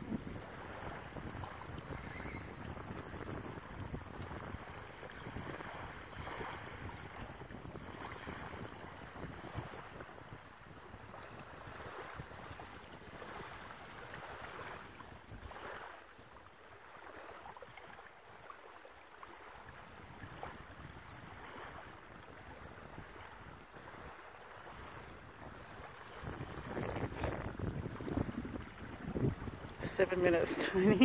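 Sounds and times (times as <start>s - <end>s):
wind buffeting microphone: 0.0s - 15.9s, 19.8s - 31.0s
small waves washing on shore: 0.0s - 31.0s.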